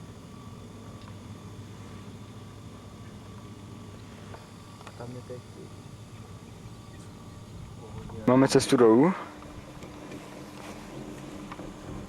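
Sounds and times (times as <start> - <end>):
low mechanical hum: 0.0 - 12.0
wind: 0.0 - 12.0.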